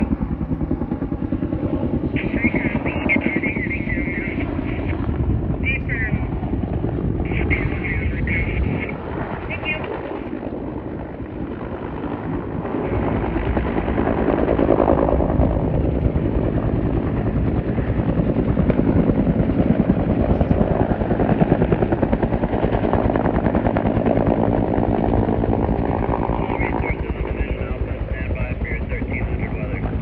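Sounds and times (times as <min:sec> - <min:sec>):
helicopter rotor beating: 0:00.0 - 0:30.0.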